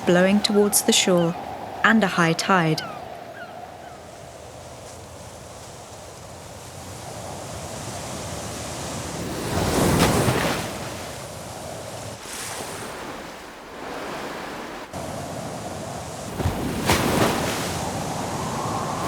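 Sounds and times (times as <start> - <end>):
sea waves crashing on shore: 0.0 - 19.0
strong wind: 0.0 - 19.0.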